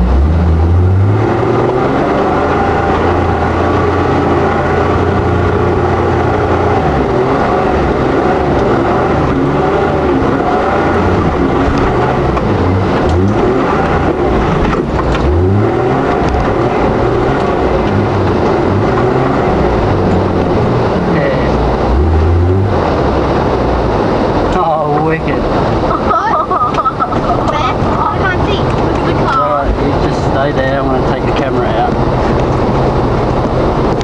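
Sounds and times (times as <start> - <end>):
vehicle engine revving in mud: 0.0 - 34.0.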